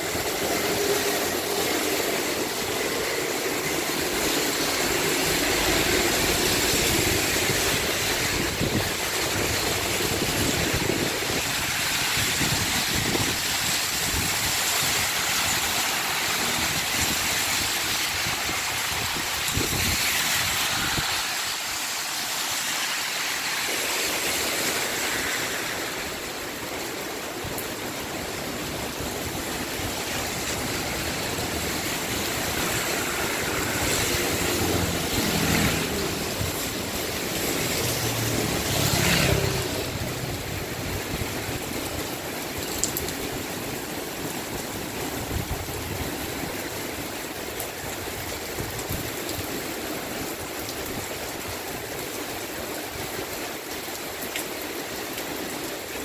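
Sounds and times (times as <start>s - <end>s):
cars swishing past on wet road: 0.0s - 56.0s
heavy rain on pavement: 0.0s - 56.0s.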